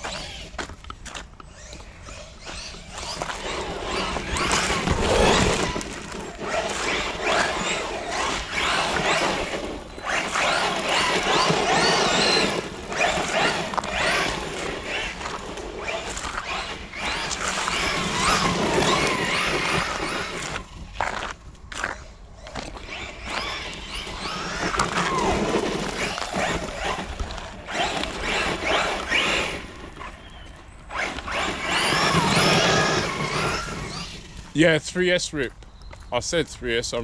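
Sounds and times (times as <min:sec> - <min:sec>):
electric motor whining: 0:00.0 - 0:21.3, 0:22.4 - 0:34.6
tyres and chassis rattling: 0:00.0 - 0:21.3, 0:22.8 - 0:35.5.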